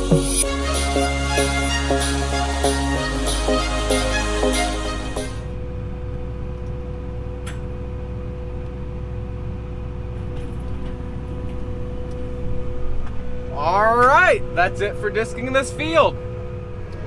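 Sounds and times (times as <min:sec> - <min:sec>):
tractor engine rumbling: 0:00.0 - 0:17.0.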